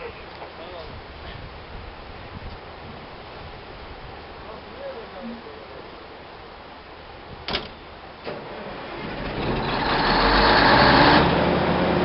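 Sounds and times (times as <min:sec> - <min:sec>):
ship hull and engine rumble: 0:00.0 - 0:12.0.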